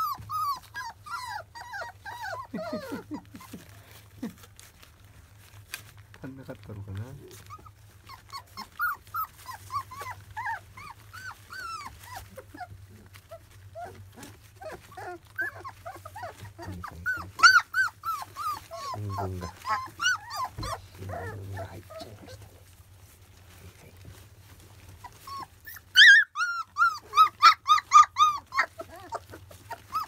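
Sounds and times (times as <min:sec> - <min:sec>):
puppies whining and squealing: 0:00.0 - 0:05.7, 0:07.0 - 0:30.0.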